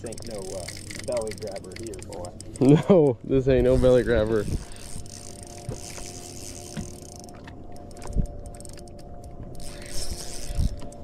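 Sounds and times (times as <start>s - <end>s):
fishing reel gears clicking: 0.0s - 11.0s
steady hum: 0.0s - 11.0s.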